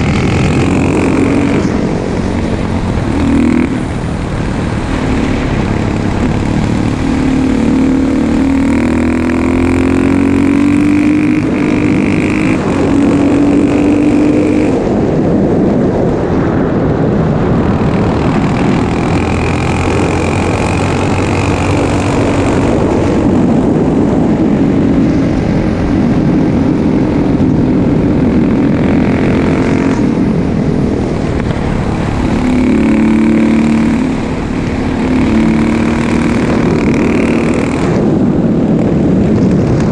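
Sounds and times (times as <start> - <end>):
motorcycle engine revving loudly: 0.0 - 39.9.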